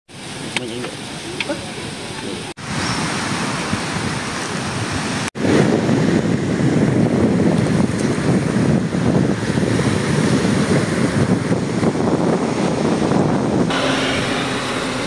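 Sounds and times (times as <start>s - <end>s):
wind buffeting microphone: 1.0s - 15.0s.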